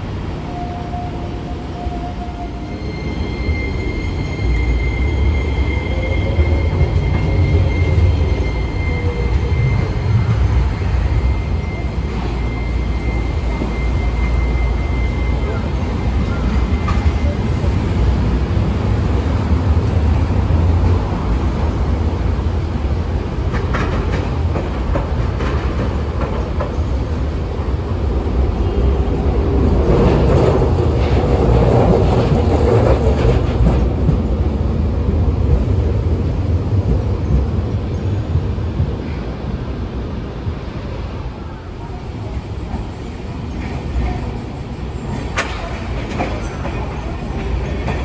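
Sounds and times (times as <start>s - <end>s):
rail clicks: 0.0s - 48.0s
tram wheels rumbling on rails: 0.0s - 48.0s.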